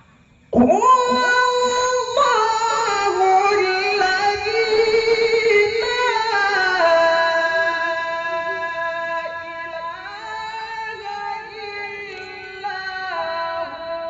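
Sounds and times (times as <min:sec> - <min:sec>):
person reciting in melismatic voice: 0:00.5 - 0:14.0.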